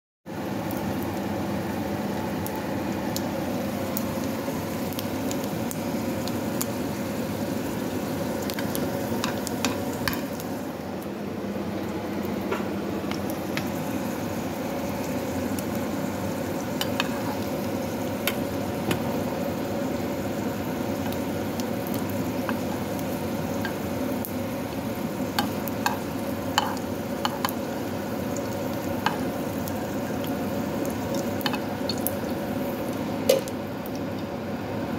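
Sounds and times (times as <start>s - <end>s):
sausage sizzling in hot oil: 0.3s - 11.0s, 11.8s - 34.2s.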